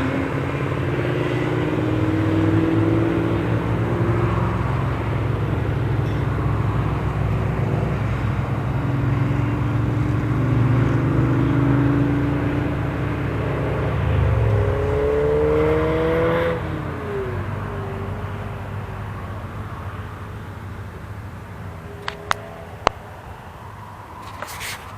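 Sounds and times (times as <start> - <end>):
car engines running: 0.0 - 24.9.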